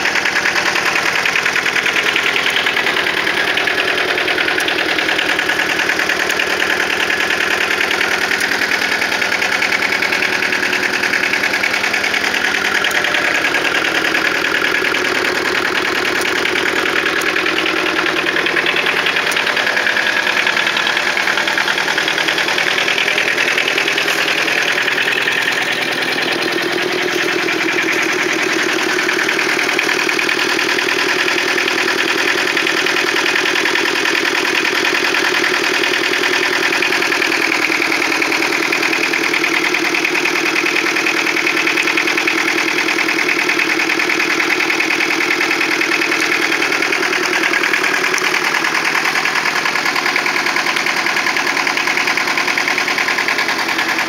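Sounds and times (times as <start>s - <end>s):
car engine idling clatter: 0.0s - 54.0s.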